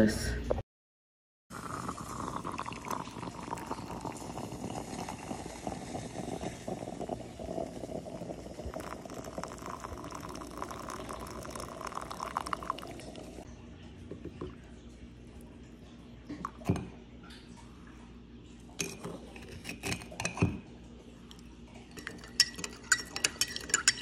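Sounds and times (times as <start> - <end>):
liquid pouring into a mug: 1.5 - 17.0, 18.7 - 24.0.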